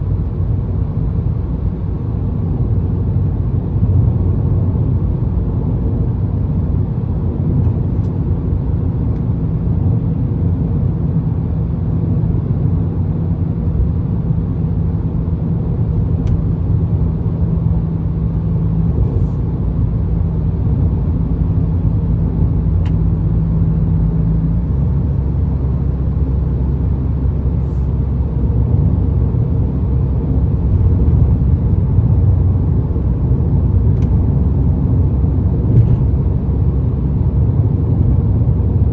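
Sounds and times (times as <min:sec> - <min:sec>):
low exhaust drone: 0:00.0 - 0:38.9
road noise: 0:00.0 - 0:38.9.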